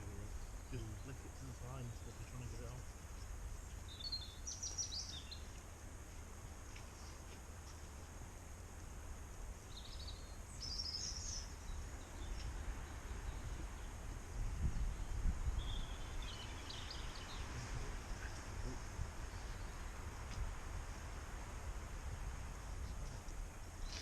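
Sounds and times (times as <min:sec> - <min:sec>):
birds chirping: 0:00.0 - 0:07.8, 0:09.6 - 0:20.4, 0:22.5 - 0:24.0
low outdoor rumble: 0:00.0 - 0:24.0.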